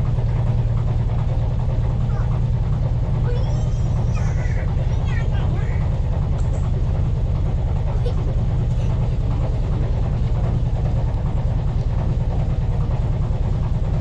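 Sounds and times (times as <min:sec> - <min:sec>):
boat engine low throb: 0:00.0 - 0:14.0.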